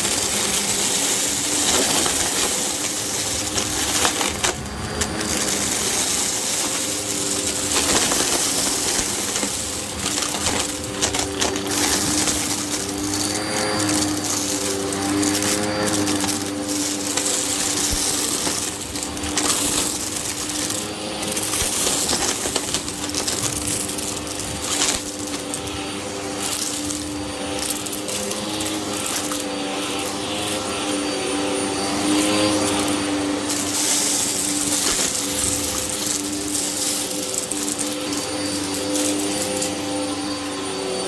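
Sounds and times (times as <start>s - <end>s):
vacuum cleaner running on a rug: 0.0s - 41.0s.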